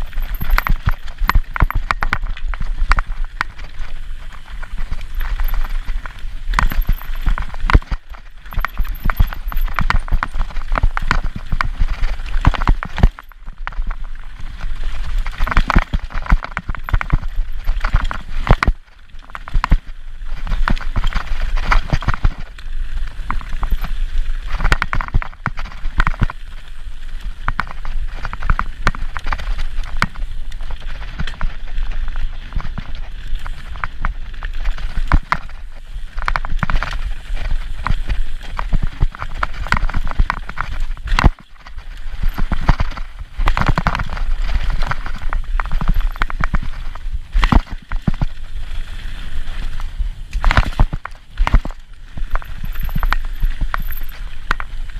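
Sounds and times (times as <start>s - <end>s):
bike knocks and rattles: 0.0s - 54.9s
bike tyres rolling on stones: 0.0s - 54.9s
wind and vibration rumble: 0.0s - 54.9s.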